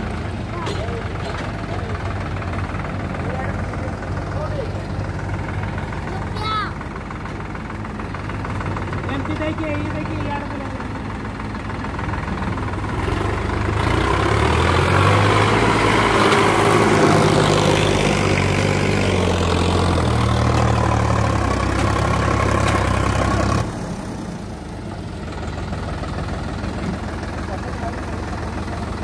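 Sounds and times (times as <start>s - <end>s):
tractor diesel engine working hard: 0.0s - 29.0s.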